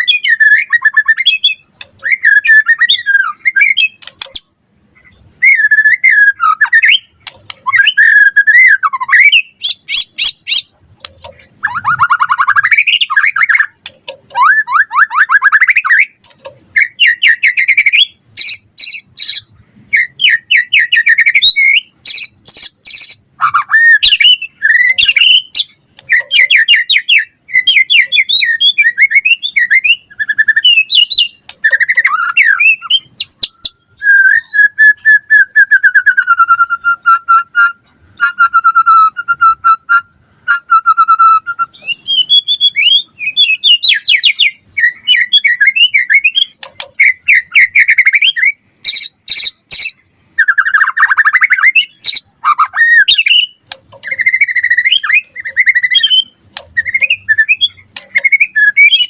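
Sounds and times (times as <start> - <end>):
songbird singing whistled phrases: 0.0 - 59.0.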